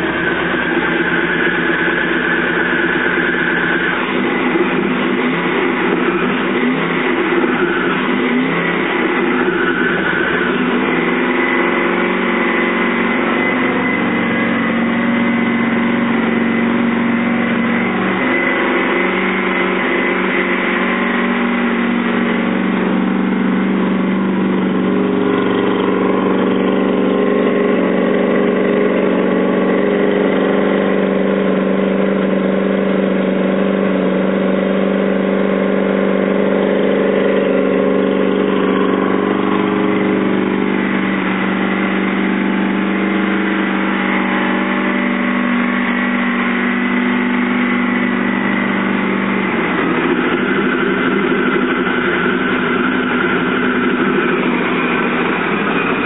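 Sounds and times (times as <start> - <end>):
boat engine idling: 0.0 - 19.5, 20.8 - 56.0.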